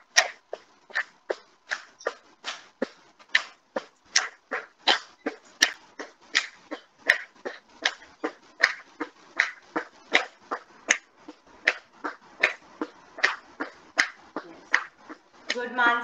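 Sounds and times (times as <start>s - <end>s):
jumping jacks thuds: 0.0s - 16.0s.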